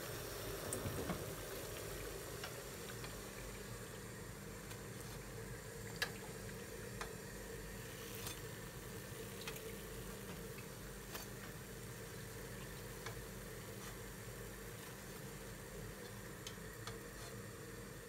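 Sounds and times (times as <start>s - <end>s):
frying oil sizzling: 0.0s - 18.0s.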